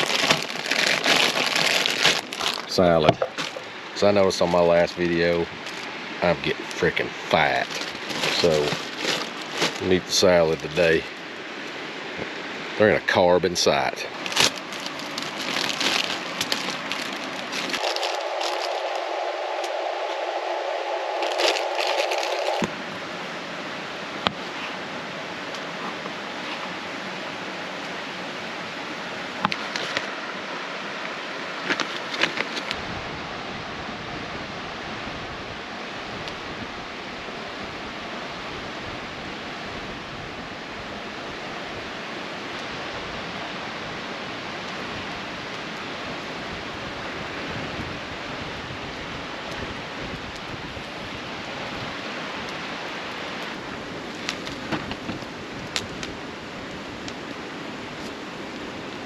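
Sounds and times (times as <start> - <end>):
steady rushing outdoor noise: 0.0 - 59.0.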